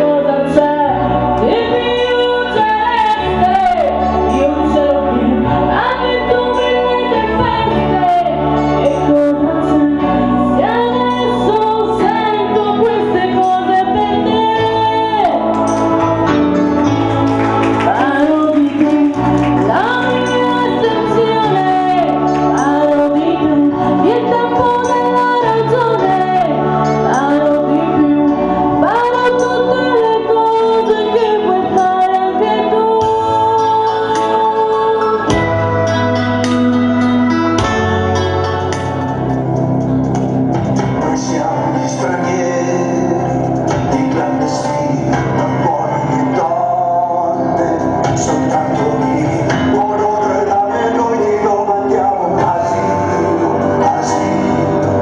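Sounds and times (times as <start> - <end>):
woman singing through microphone: 0.0 - 16.9, 17.6 - 36.0, 41.1 - 55.0
instrumental accompaniment: 0.0 - 55.0.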